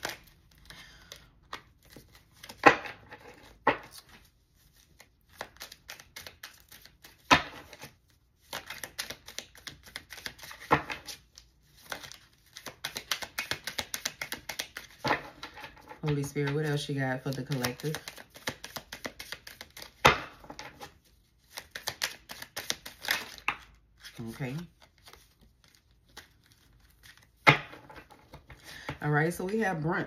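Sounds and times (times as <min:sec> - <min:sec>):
cards being shuffled: 0:00.0 - 0:29.0.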